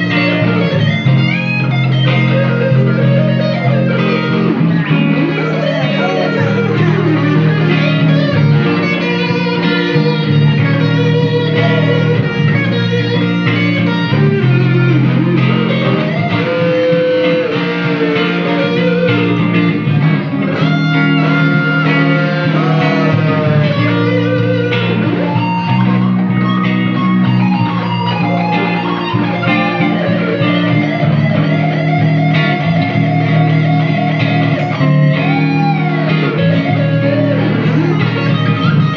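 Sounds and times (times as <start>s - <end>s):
blues lead guitar solo: 0.0s - 38.9s
rhythm guitar accompaniment: 0.0s - 38.9s.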